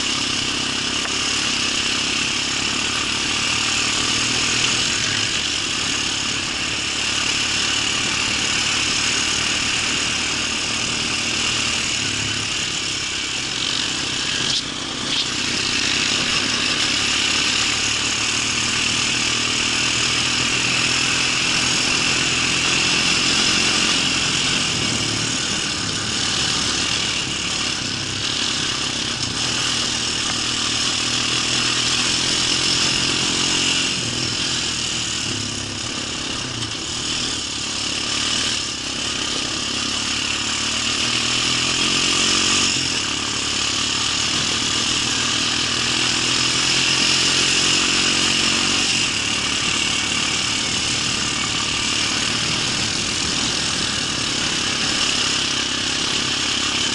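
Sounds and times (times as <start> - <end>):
engine idling: 0.0 - 56.9.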